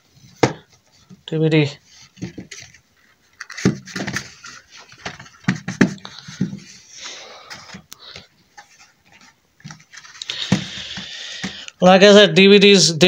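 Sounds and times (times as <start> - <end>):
cardboard and paper rustling: 0.1 - 11.6.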